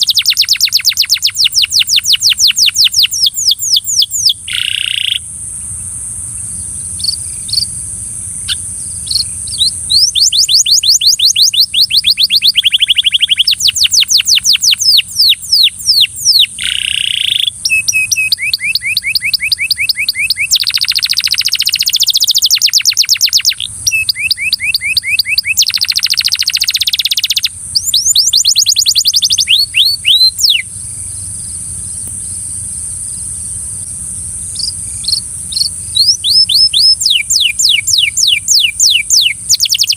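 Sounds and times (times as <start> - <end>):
canary chirps: 0.0 - 5.2, 6.6 - 7.7, 8.4 - 32.2, 34.5 - 39.9
canary singing: 0.0 - 5.3, 6.6 - 32.2, 34.5 - 39.9
steady high hiss: 0.0 - 39.9.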